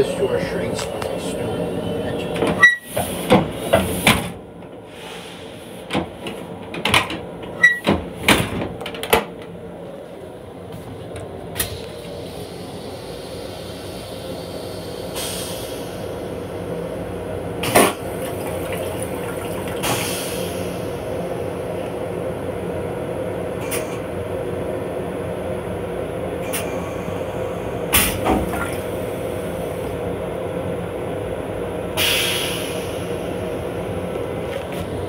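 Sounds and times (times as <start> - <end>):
railcar hum and rumble: 0.0 - 35.0.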